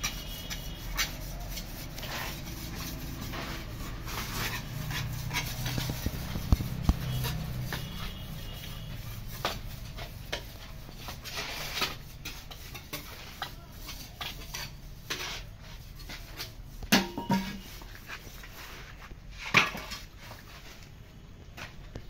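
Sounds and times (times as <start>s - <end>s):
trowel scraping and tapping cement: 0.0s - 22.0s.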